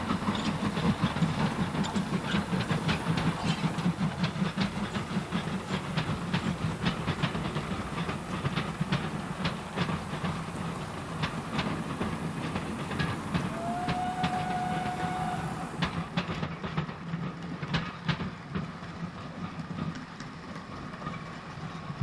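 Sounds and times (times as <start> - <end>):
train rumbling on track: 0.0 - 22.0
wheels clicking over rail joints: 0.0 - 22.0.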